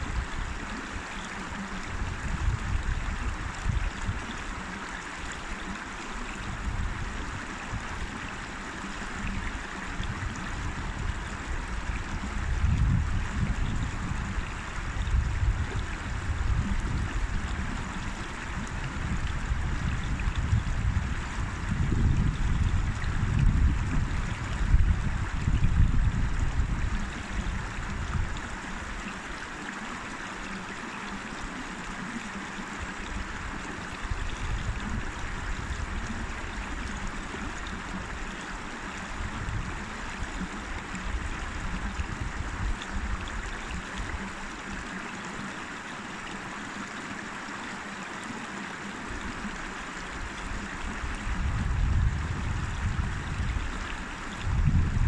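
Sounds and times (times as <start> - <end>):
river water rushing over stones: 0.0 - 55.0.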